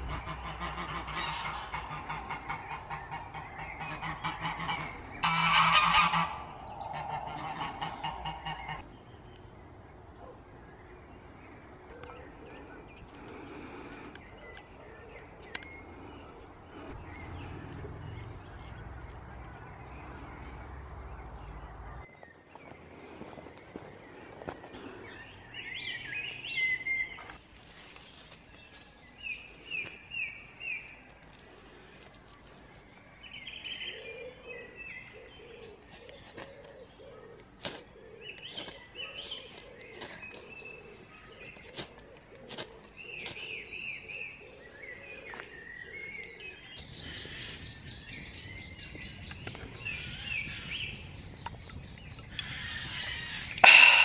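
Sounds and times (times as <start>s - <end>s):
low repeated bird call: 0.0s - 27.4s, 29.0s - 54.0s
birds chirping and singing: 0.0s - 54.0s.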